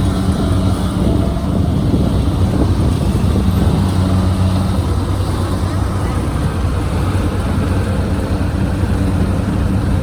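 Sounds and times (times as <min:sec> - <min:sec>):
combine harvester running: 0:00.0 - 0:10.0.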